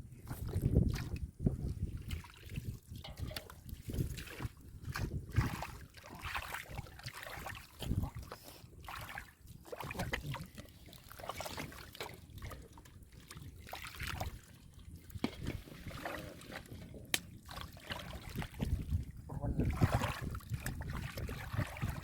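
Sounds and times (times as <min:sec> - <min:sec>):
splashing in muddy water: 0:00.2 - 0:22.0.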